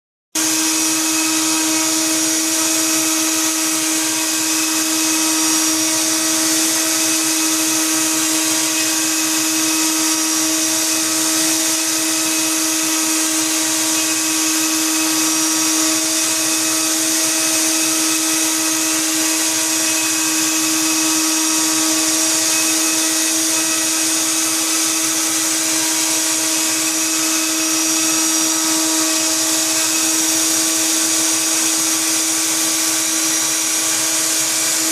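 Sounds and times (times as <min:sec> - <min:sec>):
wood router motor whining: 0:00.4 - 0:34.9.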